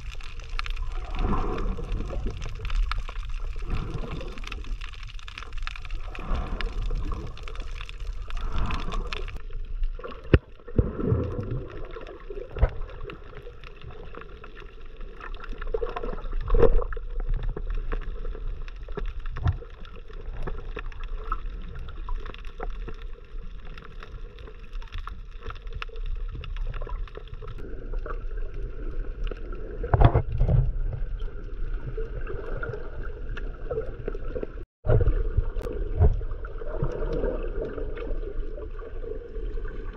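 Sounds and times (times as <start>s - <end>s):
underwater gurgling wash: 0.0s - 39.9s.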